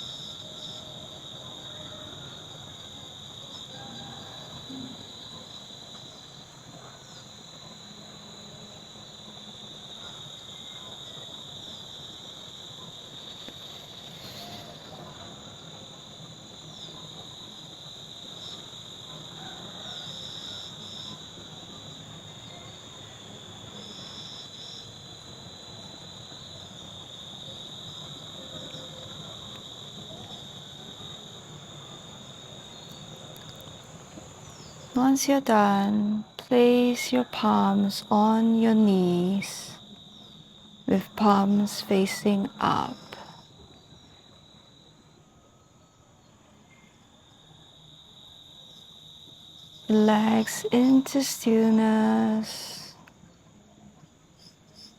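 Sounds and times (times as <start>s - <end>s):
insects trilling: 0.0s - 54.9s
soft background hiss: 0.0s - 54.9s.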